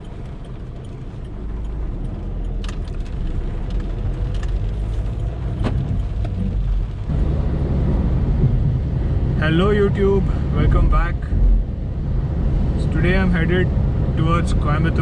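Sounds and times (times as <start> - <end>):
diesel car engine rumble: 0.0 - 15.0.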